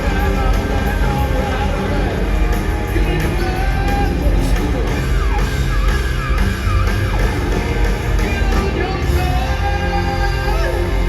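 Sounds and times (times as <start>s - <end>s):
live rock band playing: 0.0s - 11.0s
voices singing and yelling: 0.0s - 11.0s.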